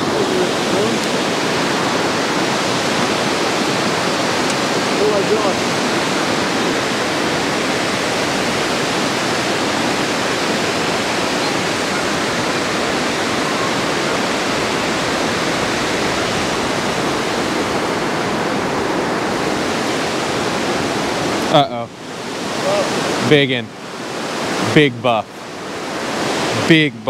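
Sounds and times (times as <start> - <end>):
water rushing over dam spillway: 0.0 - 27.0.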